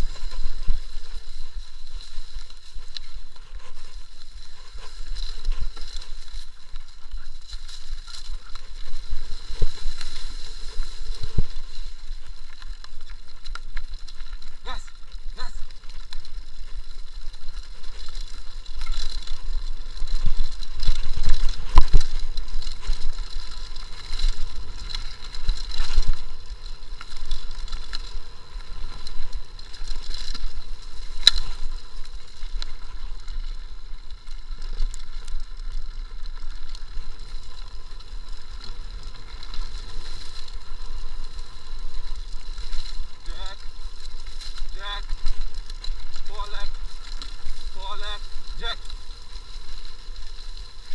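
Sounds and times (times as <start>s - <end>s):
bike jolts: 0.0s - 50.9s
bike rumbling and rattling: 0.0s - 50.9s.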